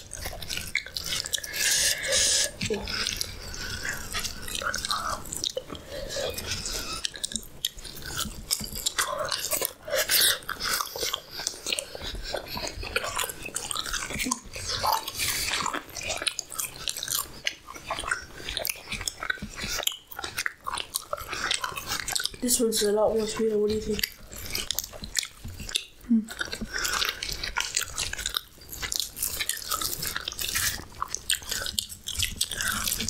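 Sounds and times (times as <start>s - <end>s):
person chewing with clicks: 0.0s - 33.0s.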